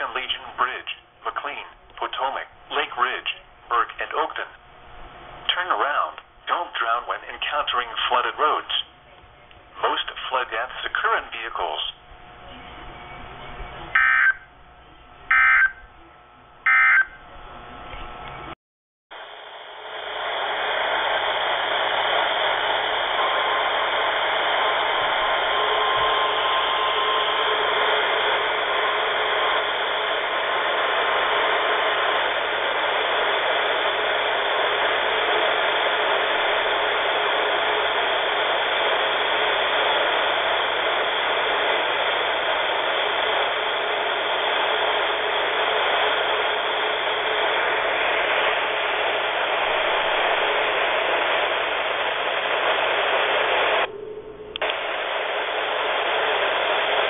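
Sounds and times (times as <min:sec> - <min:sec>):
radio static hiss: 0:00.0 - 0:14.5, 0:15.2 - 0:15.8, 0:19.2 - 0:57.0.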